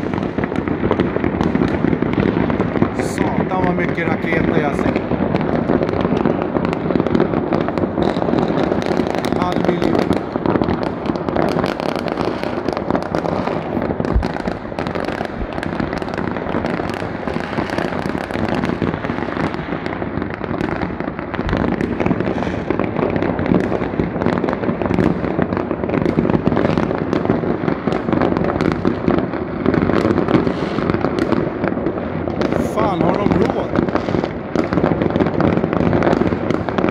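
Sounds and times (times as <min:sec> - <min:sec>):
fireworks bangs and crackle: 0:00.0 - 0:36.9.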